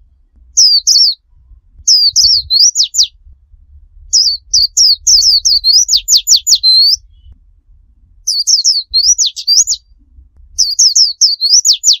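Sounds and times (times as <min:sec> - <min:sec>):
bird singing whistled notes: 0:00.5 - 0:03.2, 0:04.1 - 0:07.4, 0:08.2 - 0:12.0.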